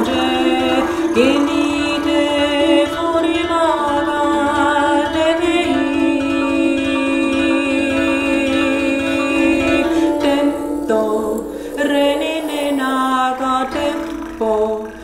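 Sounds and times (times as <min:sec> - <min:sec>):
woman overtone singing: 0:00.0 - 0:15.0.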